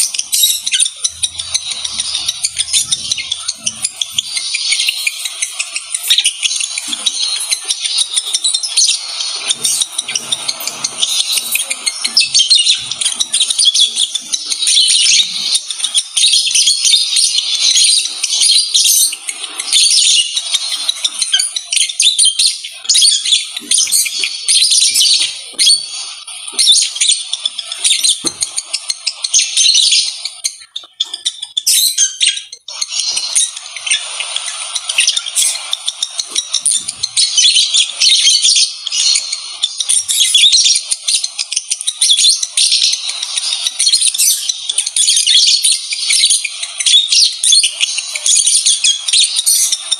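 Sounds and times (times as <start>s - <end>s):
lovebirds chirping and squeaking: 0.0s - 49.9s.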